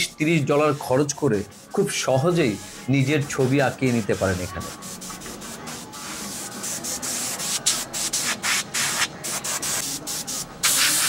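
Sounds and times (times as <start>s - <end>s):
airbrush hissing: 0.0s - 11.0s.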